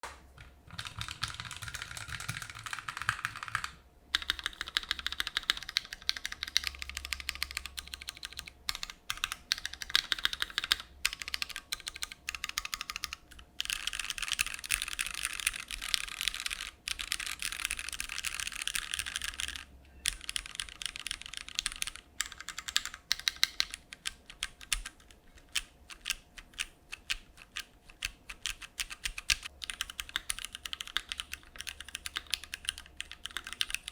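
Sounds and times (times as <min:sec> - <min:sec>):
mechanical keyboard typing: 0:00.4 - 0:33.9.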